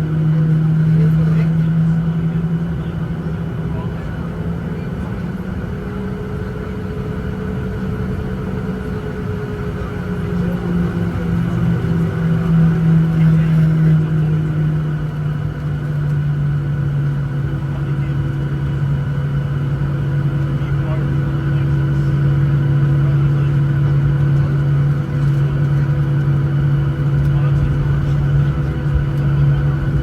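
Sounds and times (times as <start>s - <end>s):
jet engines humming from cabin: 0.0s - 30.0s.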